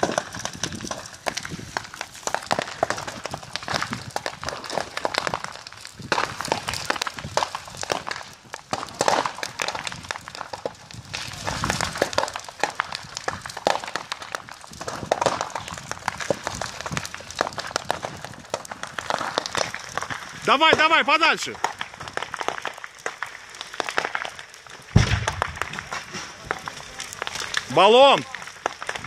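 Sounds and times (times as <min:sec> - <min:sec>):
burning house crackling and popping: 0:00.0 - 0:29.0.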